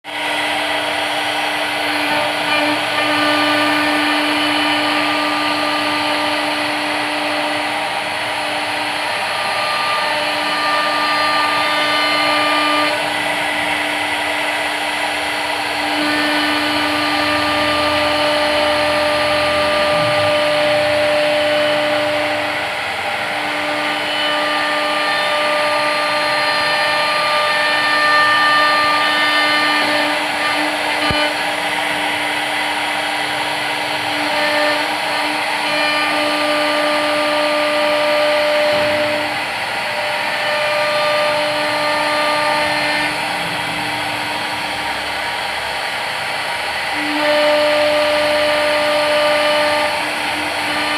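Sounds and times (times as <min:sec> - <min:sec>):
cnc machine motor whine: 0:00.0 - 0:50.9
constant machine noise: 0:00.1 - 0:50.9.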